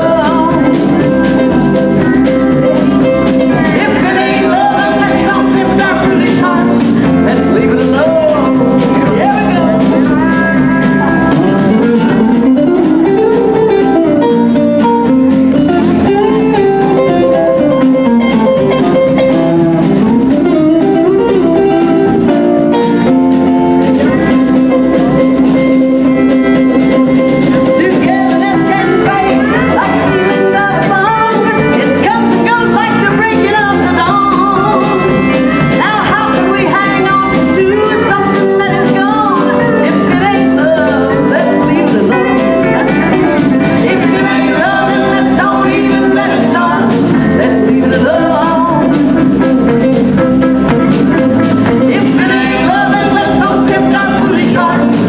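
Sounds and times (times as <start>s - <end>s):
country band playing: 0.0s - 55.0s
electric guitar lead: 0.0s - 55.0s.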